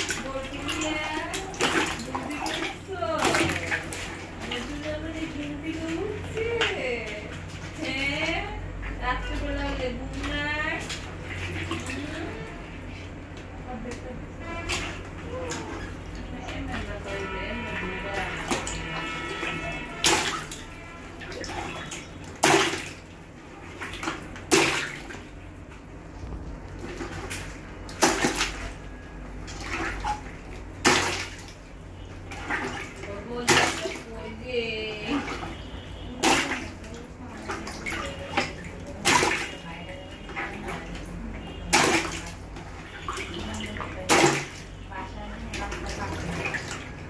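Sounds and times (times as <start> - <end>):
water splash: 0.0 - 7.8, 9.2 - 12.6, 14.4 - 25.5, 26.1 - 47.0.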